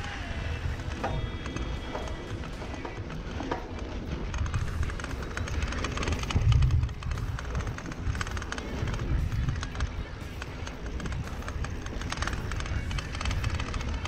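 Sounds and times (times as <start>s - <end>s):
bike rattling: 0.0s - 14.0s
bike tyre noise: 0.0s - 14.0s
wind rumble on microphone: 0.0s - 14.0s.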